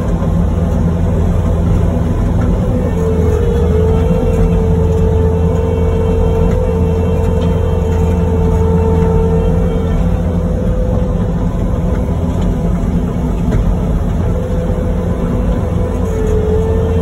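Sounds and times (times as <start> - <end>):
diesel engine running under load: 0.0 - 17.0
steady hum: 0.0 - 17.0.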